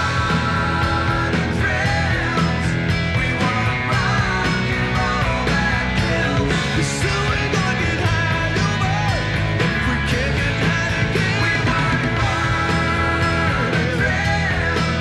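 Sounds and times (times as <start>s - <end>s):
bass guitar: 0.0s - 15.0s
drums with steady beat: 0.0s - 15.0s
electric guitar: 0.0s - 15.0s.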